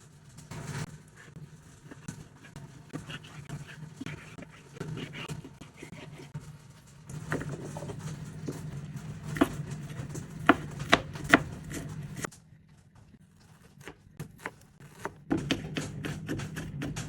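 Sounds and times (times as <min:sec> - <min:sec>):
kitchen knocks and clatters: 0:00.0 - 0:17.0.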